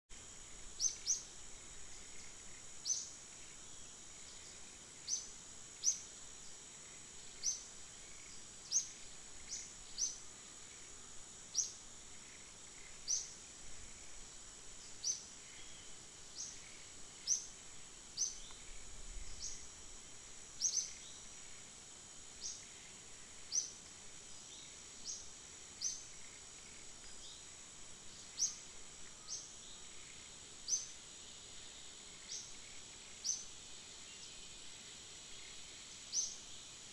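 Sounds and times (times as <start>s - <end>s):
insect drone: 0.1s - 36.9s.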